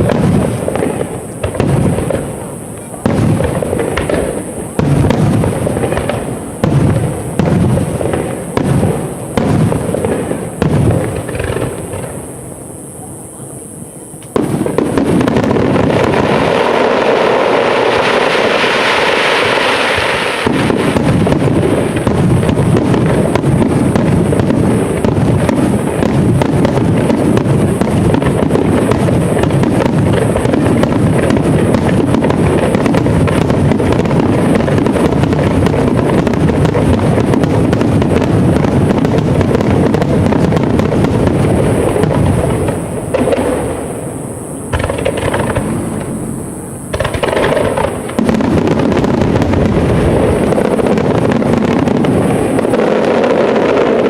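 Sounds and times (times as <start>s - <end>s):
fireworks bursting: 0.0s - 54.0s
fireworks crackling hiss: 0.0s - 54.0s.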